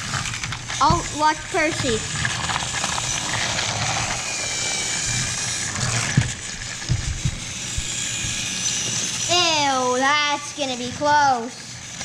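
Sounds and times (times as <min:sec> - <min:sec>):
toy train motor whirring: 0:00.0 - 0:12.0
wheels rattling on plastic track: 0:00.0 - 0:12.0.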